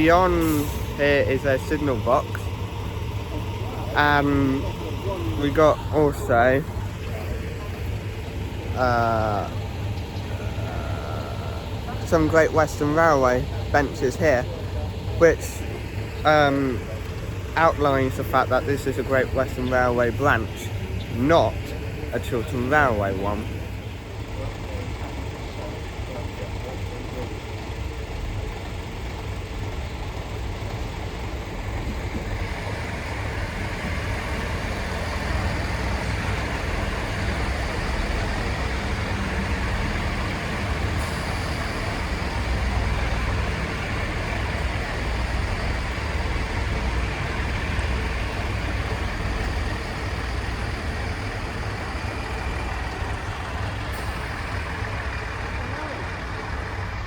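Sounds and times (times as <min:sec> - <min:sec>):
train rumbling on the line: 0:00.0 - 0:57.0.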